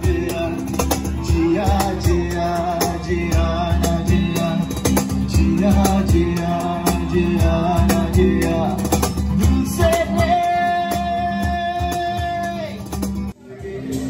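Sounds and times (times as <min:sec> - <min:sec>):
guitar: 0:00.0 - 0:14.0.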